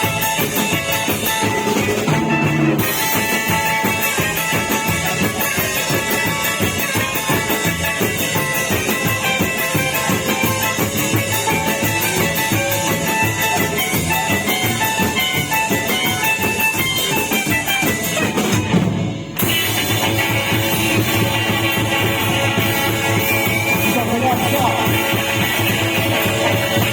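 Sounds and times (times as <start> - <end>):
rock band playing instrumental: 0.0 - 26.9.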